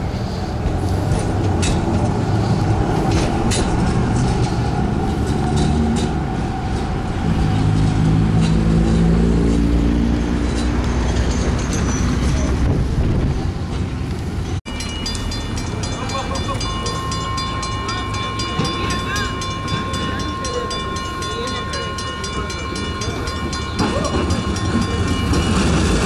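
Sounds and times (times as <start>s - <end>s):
light-rail car running on track: 0.0s - 26.0s
traffic rumble: 0.0s - 26.0s.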